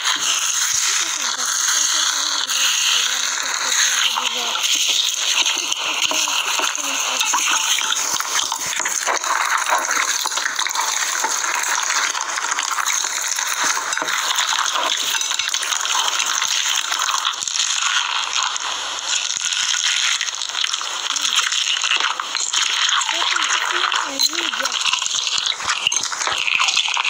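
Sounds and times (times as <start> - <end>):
foam beads crackling and popping: 0.0 - 27.0.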